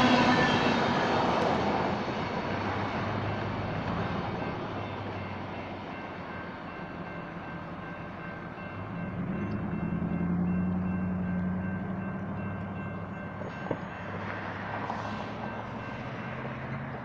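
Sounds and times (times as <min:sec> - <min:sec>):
crossing warning bell: 0:00.0 - 0:17.0
freight train rumble: 0:00.0 - 0:17.0.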